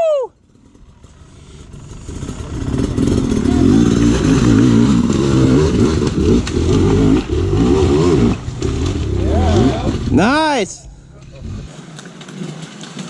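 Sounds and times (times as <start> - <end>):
dirt bike engine revving: 0.4 - 11.8.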